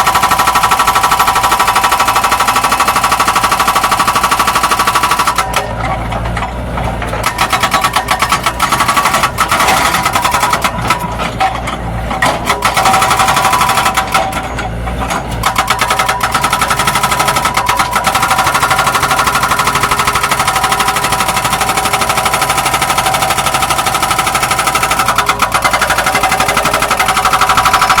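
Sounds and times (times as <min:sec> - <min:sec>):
excavator rhythmic clatter: 0:00.0 - 0:28.0
excavator whine: 0:05.3 - 0:28.0.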